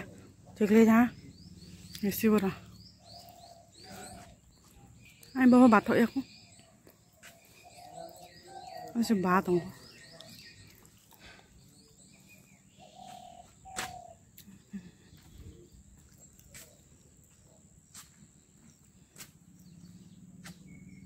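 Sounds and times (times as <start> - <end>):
bird calls: 0.0 - 21.0.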